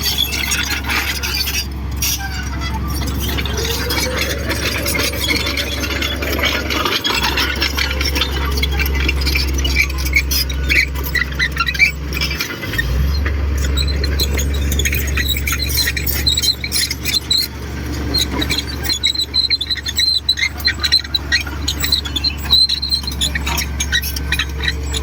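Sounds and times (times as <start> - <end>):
bulldozer diesel engine drone: 0.0 - 25.0
steel tracks squealing and clinking: 0.0 - 25.0.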